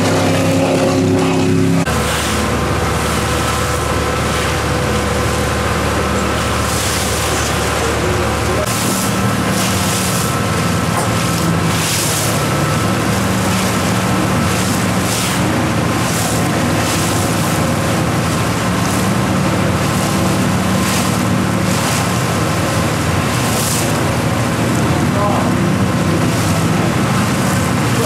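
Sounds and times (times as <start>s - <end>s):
powerboat engines droning: 0.0s - 28.0s.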